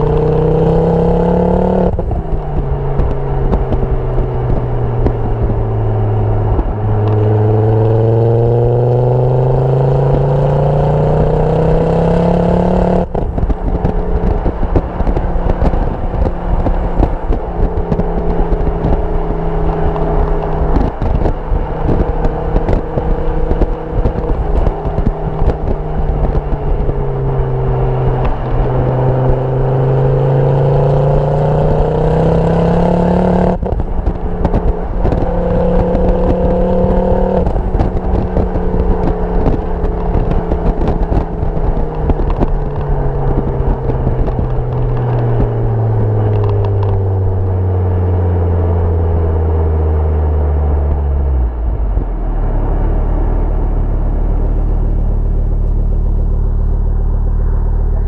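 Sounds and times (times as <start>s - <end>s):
car exhaust engine note: 0.0s - 58.0s
wind buffeting microphone: 0.0s - 58.0s.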